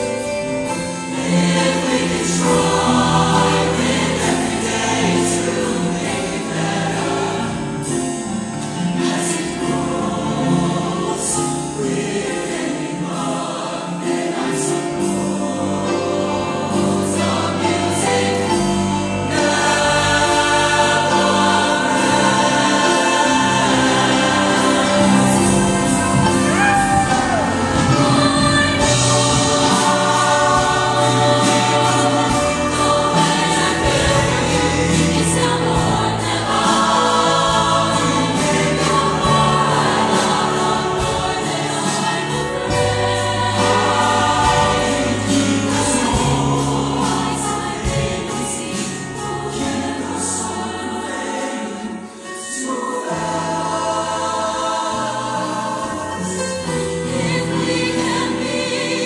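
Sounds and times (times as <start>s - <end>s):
choir singing with accompaniment: 0.0s - 59.0s.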